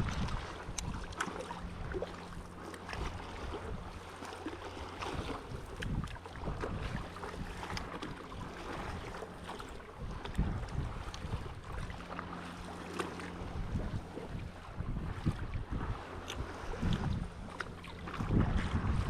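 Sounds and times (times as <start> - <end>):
water splashing against paddleboard: 0.0 - 19.0
wind rumble on microphone: 0.0 - 19.0.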